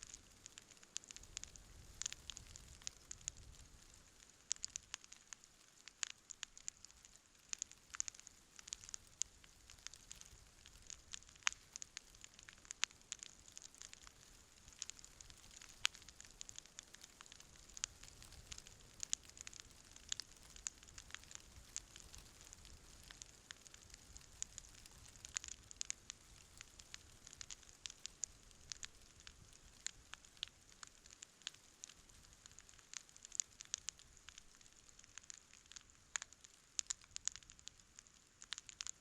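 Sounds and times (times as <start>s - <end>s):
campfire crackling and popping: 0.0s - 39.0s
faint steady hiss: 0.0s - 39.0s.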